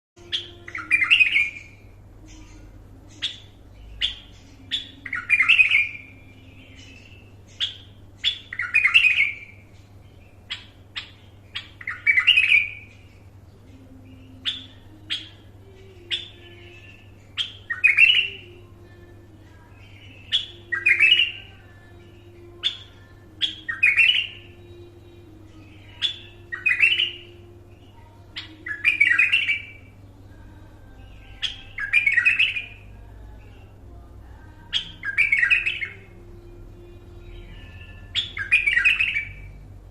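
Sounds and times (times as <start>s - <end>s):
bulbul singing: 0.2s - 39.9s
faint steady low hum: 0.2s - 39.9s.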